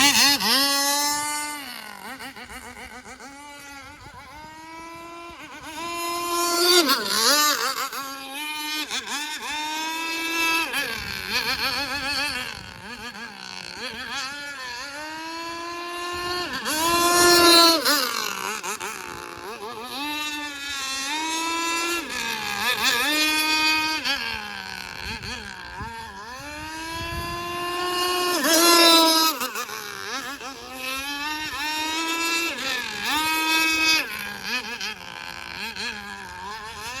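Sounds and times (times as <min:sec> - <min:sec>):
model boat engine revving: 0:00.0 - 0:37.0.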